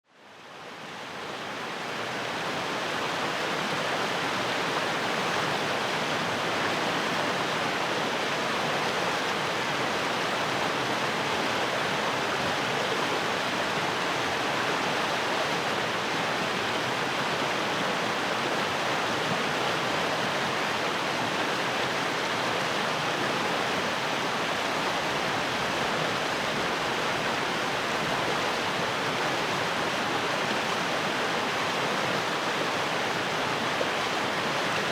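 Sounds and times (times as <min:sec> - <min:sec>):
stream rushing over rocks: 0:00.5 - 0:34.9.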